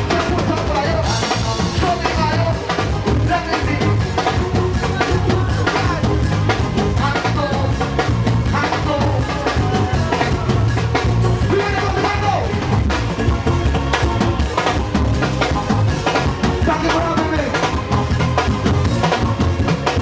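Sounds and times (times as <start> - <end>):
band music with drums and bass: 0.0 - 20.0.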